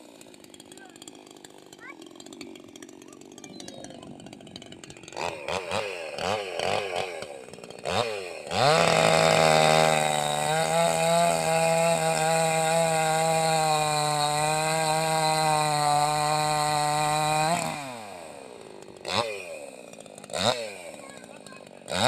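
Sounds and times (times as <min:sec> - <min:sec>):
chainsaw engine starting: 0:00.0 - 0:22.0.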